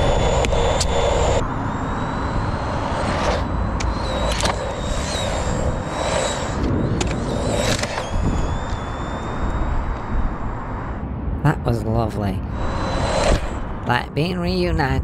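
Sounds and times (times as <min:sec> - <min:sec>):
rc car motor whine: 0:00.0 - 0:11.0, 0:12.5 - 0:13.8
wind on microphone: 0:00.0 - 0:15.0.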